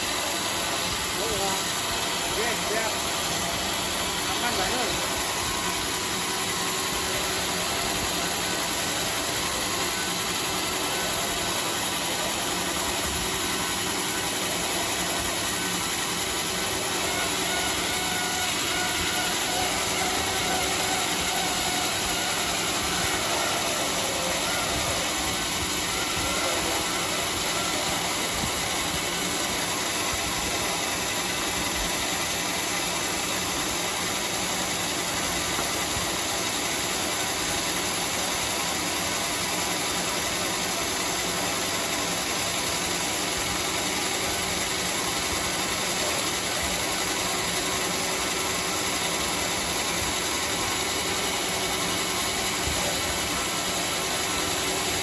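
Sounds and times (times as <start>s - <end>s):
band sawmill sawing log: 0.0s - 55.0s.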